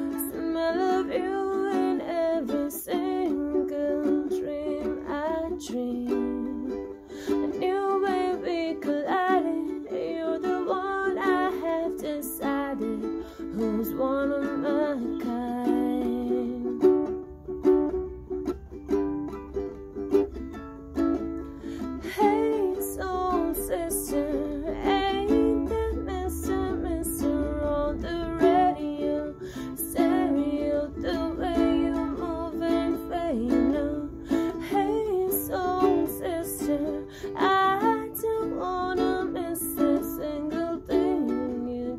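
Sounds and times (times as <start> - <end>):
woman singing: 0.0 - 17.2, 21.7 - 41.9
ukulele strumming: 0.0 - 41.9.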